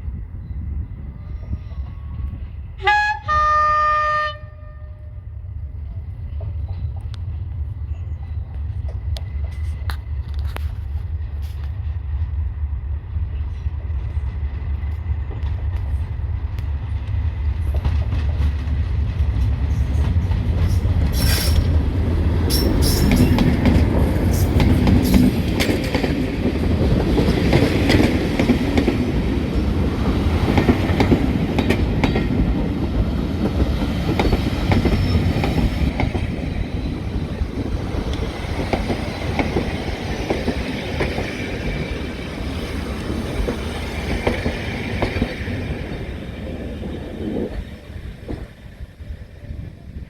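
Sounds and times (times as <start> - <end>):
diesel train rumbling: 0.0 - 50.0.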